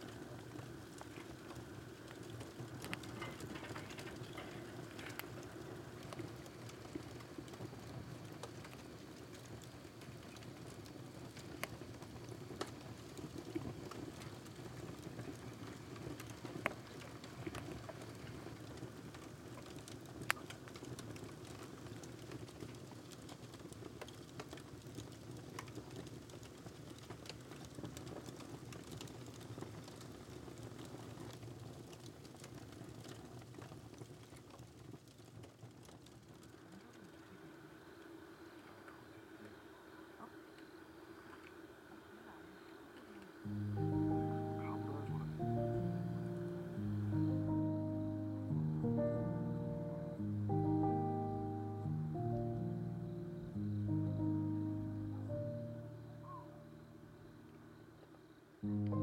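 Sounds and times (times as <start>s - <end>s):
firewood crackling and popping: 0.0s - 37.3s, 43.4s - 59.0s.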